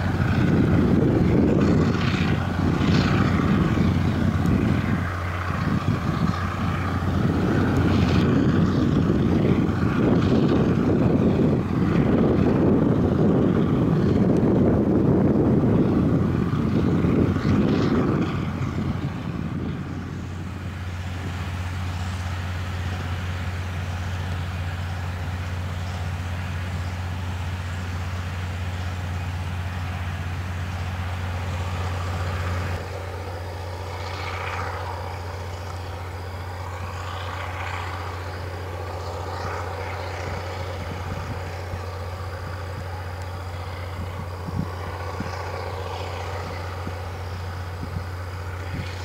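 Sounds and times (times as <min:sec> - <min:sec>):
diesel engines humming: 0:00.0 - 0:49.0
heavy rumble: 0:00.0 - 0:49.0.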